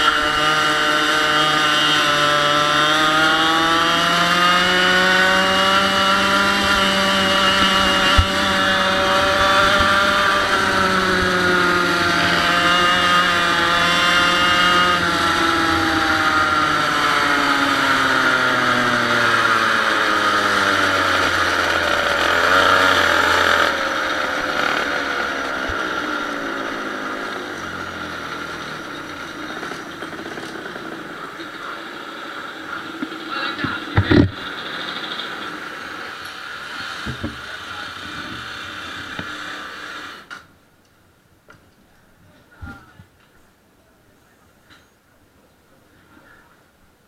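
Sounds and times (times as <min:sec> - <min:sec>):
kart engine revving: 0:00.0 - 0:40.5.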